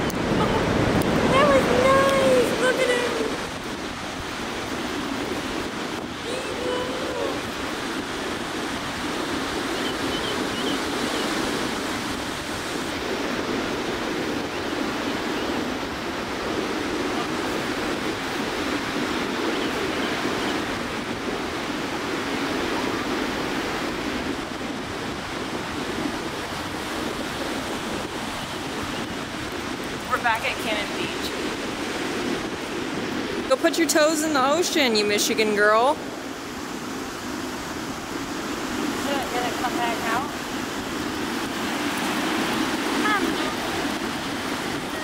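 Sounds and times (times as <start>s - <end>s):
surf breaking on sandy beach: 0.0s - 45.0s.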